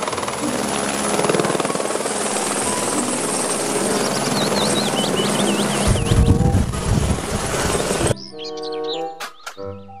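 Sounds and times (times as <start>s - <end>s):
helicopter rotor chopping: 0.0s - 8.2s
turbine whine: 0.0s - 8.2s.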